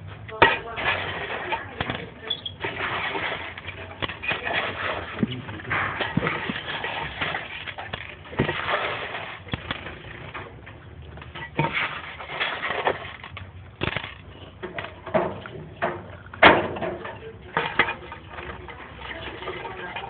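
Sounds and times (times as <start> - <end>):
clicks and rustles: 0.0 - 20.0.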